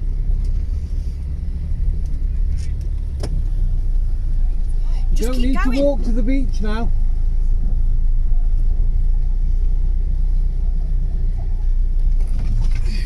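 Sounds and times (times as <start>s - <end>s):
car driving through floodwater: 0.0s - 13.0s.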